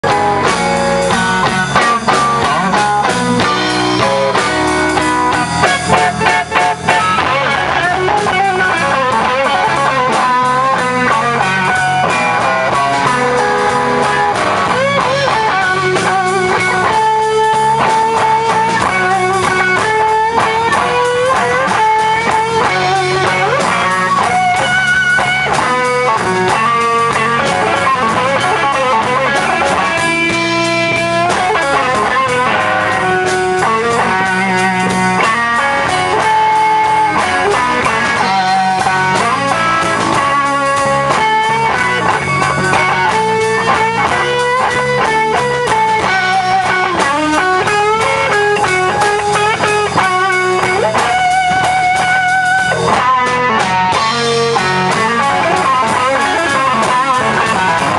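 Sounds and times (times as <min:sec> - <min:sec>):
blues band playing: 0:00.0 - 0:57.9
electric guitar bent notes: 0:00.0 - 0:57.9.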